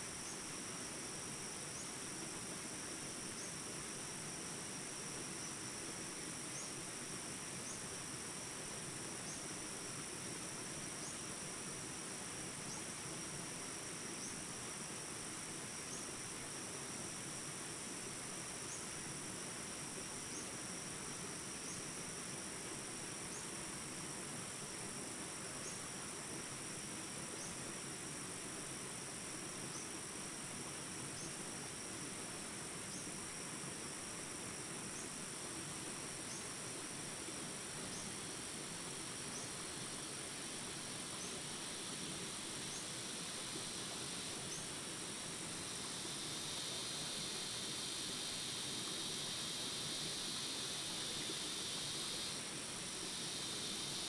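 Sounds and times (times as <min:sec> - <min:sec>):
insects droning high: 0:00.0 - 0:54.0.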